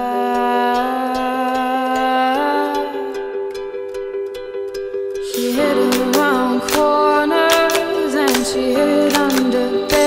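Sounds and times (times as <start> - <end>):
person singing melody: 0.0 - 4.0, 5.2 - 10.0
plucked strings: 0.0 - 10.0.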